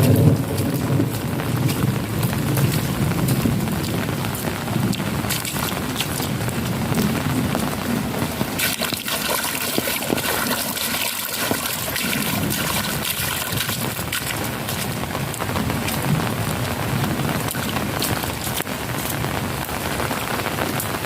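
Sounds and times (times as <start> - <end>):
water running and trickling: 0.0 - 20.9
heavy rain falling: 0.0 - 21.0.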